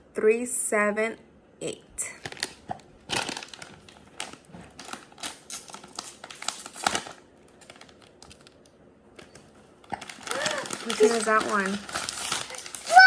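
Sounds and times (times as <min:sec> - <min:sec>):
packaging crinkling and tearing: 0:02.2 - 0:13.0.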